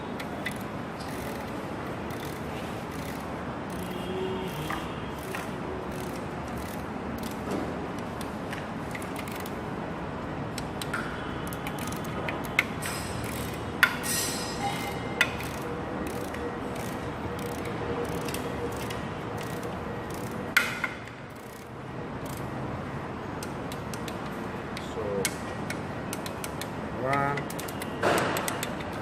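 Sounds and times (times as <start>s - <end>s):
ratchet wrench clicking: 0.2s - 9.7s, 10.5s - 22.6s, 23.4s - 29.0s.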